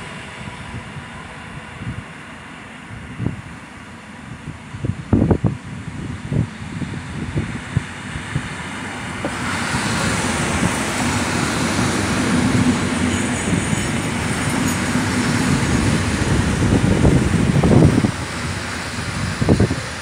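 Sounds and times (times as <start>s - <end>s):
train running past: 0.0s - 20.0s.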